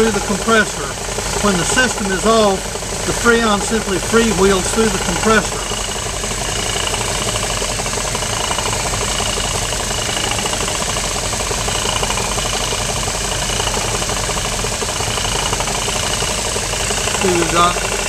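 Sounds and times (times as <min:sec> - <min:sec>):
car engine idling: 0:00.0 - 0:18.0
compressor mechanical ticking: 0:00.0 - 0:18.0.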